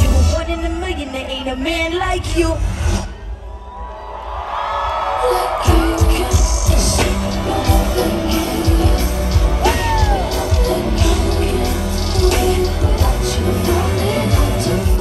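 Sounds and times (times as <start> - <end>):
live concert music with heavy bass: 0.0 - 3.7, 4.8 - 15.0.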